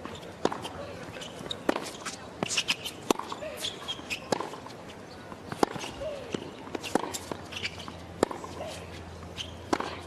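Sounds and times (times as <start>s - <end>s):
racquets striking tennis ball: 0.0s - 10.0s.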